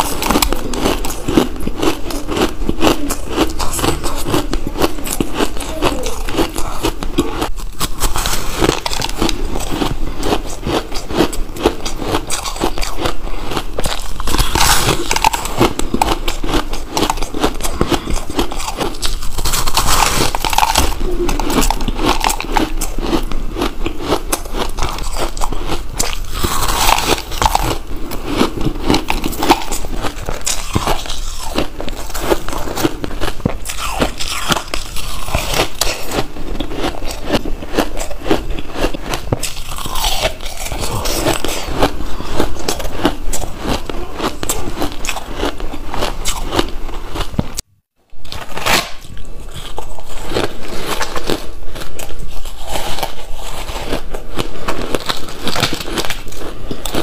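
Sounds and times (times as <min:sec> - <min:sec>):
crunching ice: 0:00.0 - 0:47.6, 0:48.3 - 0:57.0.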